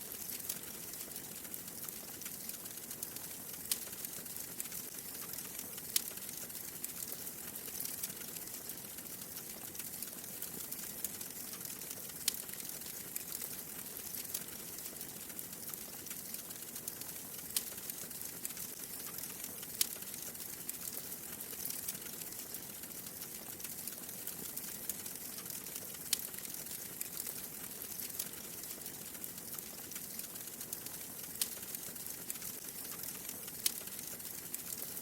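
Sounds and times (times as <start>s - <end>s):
wood fire crackling in fireplace: 0.0s - 35.0s.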